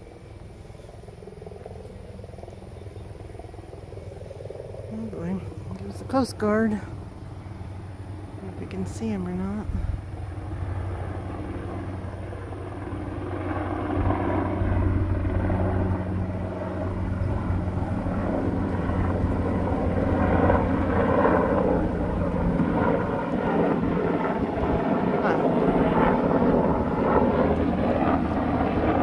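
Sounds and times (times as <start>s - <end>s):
aircraft engine drone: 0.0s - 29.0s.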